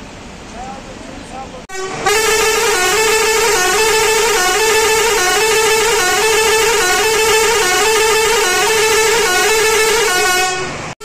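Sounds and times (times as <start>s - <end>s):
bus air horn: 1.7s - 11.0s.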